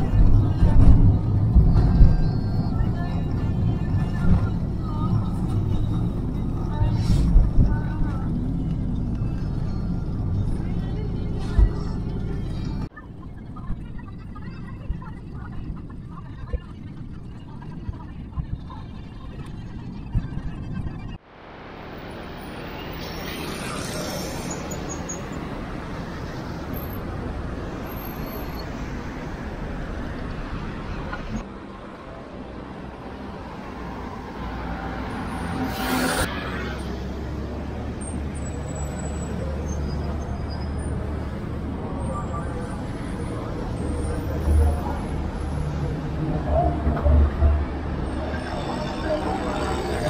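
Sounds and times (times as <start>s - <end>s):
road traffic noise: 0.0s - 14.4s, 21.0s - 50.0s.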